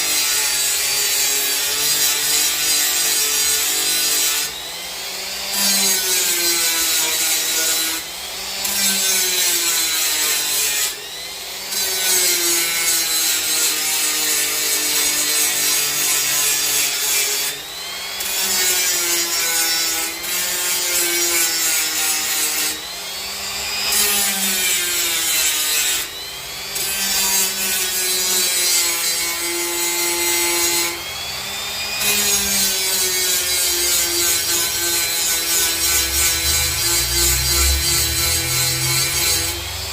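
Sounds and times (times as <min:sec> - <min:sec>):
die grinder cutting wood: 0:00.0 - 0:39.9.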